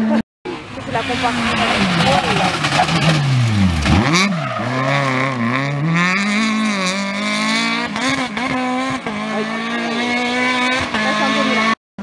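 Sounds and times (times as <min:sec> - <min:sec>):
rally car engine revving: 0:00.0 - 0:11.8.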